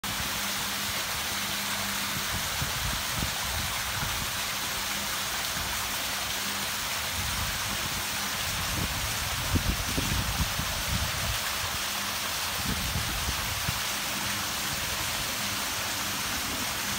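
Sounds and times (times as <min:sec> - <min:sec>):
waterfall splashing into pond: 0:00.0 - 0:16.9.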